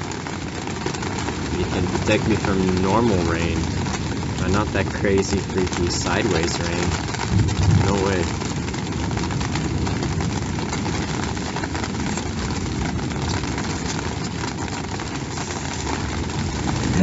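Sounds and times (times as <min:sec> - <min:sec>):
rain ticking: 0:00.0 - 0:17.0
wind buffeting microphone: 0:00.0 - 0:17.0.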